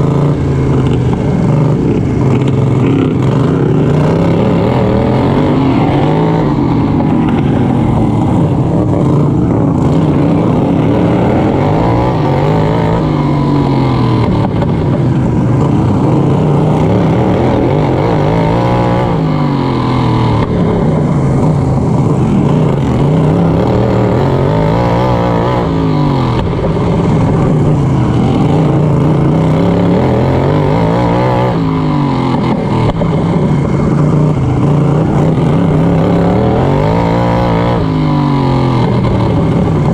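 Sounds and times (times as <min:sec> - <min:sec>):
racing mower engine revving: 0:00.0 - 0:39.9.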